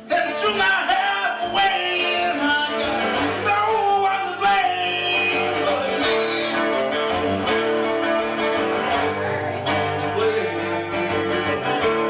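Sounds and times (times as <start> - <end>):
person singing: 0.0 - 12.0
strummed acoustic guitar: 0.0 - 12.0.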